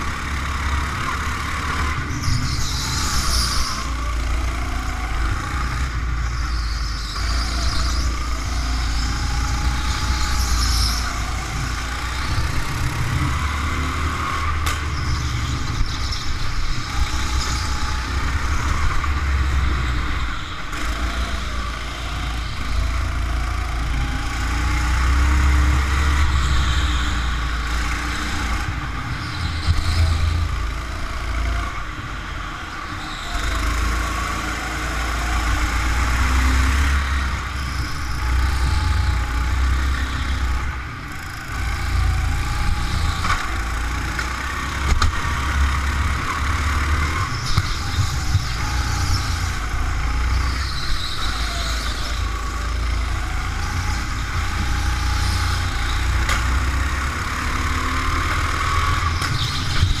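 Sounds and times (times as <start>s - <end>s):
go-kart engine running: 0.0s - 60.0s.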